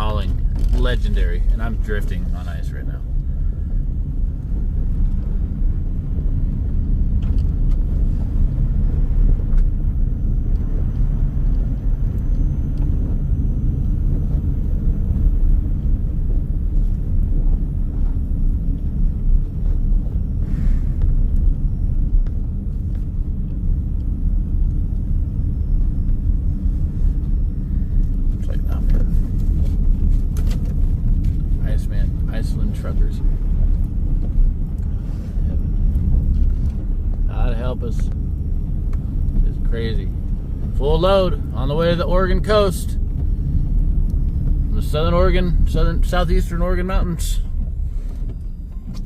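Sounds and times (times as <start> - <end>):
truck engine and road noise: 0.0 - 49.0.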